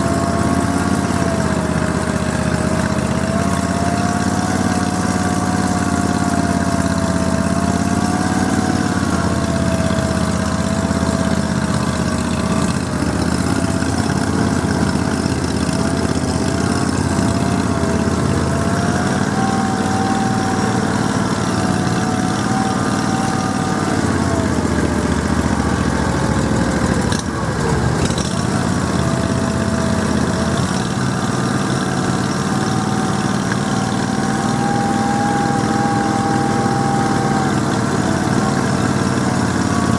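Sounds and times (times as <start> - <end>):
engine running with wavering whine: 0.0 - 39.9.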